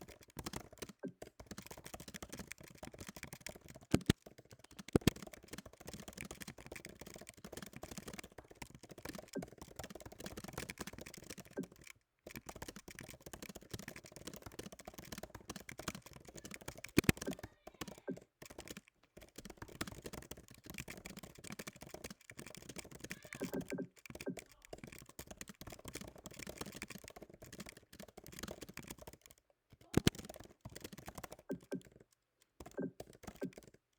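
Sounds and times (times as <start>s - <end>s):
fast keyboard typing: 0.0s - 33.9s.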